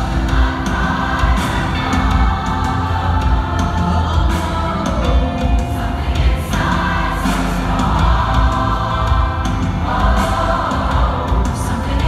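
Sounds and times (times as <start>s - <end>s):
deep bass: 0.0s - 12.0s
pop choir singing: 0.0s - 12.0s.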